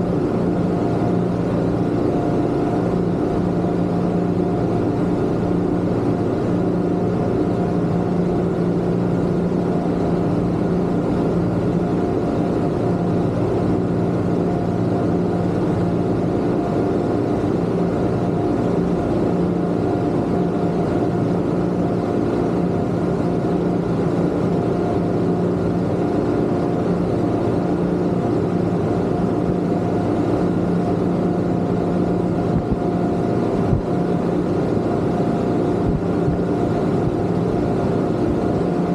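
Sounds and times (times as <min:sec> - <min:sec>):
outboard motors droning: 0:00.0 - 0:38.9
rush of moving boat: 0:00.0 - 0:38.9.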